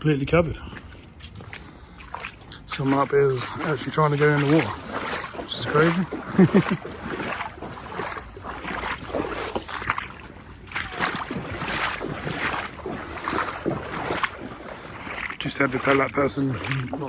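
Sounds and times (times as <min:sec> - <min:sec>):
water sloshing around wading legs: 0:00.6 - 0:17.0.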